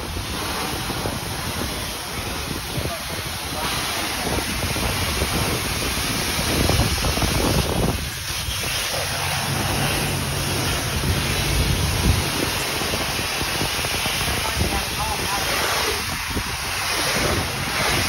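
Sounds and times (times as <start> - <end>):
high-pressure water spraying: 0.0 - 18.0.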